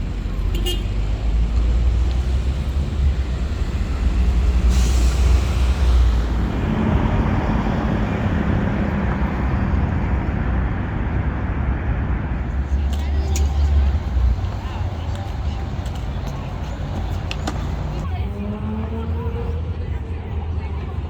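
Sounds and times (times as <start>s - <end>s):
heavy vehicle engine rumble: 0.0s - 21.0s
passing traffic: 0.0s - 21.0s.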